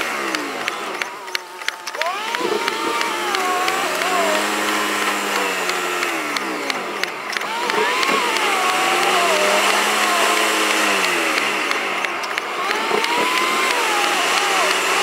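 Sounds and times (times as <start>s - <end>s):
car engine: 0.0s - 15.0s.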